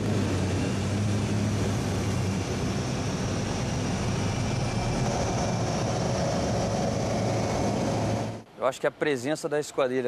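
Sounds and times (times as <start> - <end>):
turboprop engine drone: 0.0 - 8.5.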